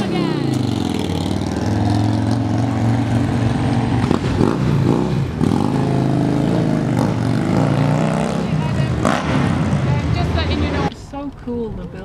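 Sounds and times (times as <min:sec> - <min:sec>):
motorcycles riding past: 0:00.0 - 0:10.9.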